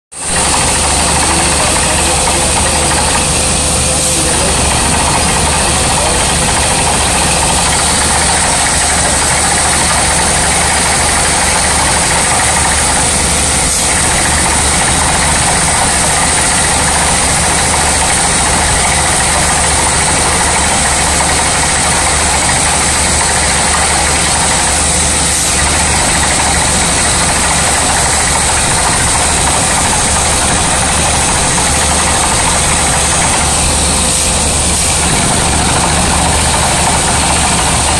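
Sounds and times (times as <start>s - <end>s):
drilling rig running: 0.1s - 37.9s.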